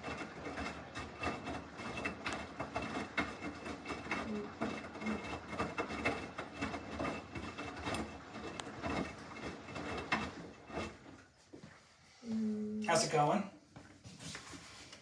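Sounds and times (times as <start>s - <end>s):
faint machine hum: 0.0s - 15.0s.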